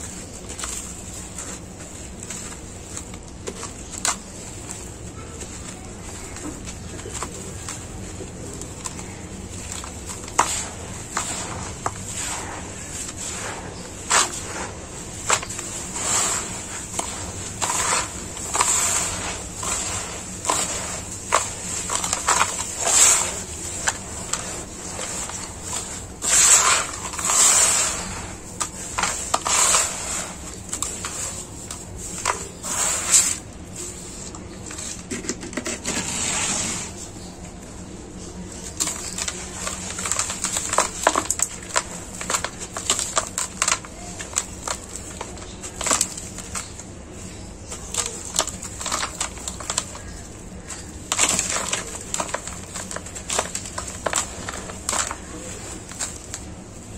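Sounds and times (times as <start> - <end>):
hands digging through gritty soil: 0.0 - 35.1, 35.8 - 56.9.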